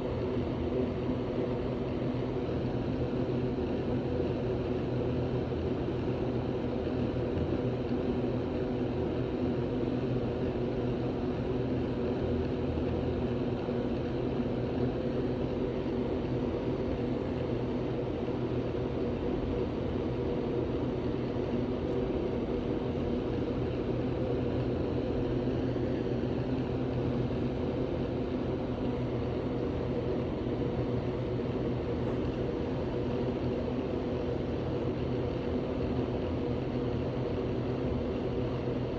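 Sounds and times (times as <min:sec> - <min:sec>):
steady mechanical drone: 0:00.0 - 0:38.9.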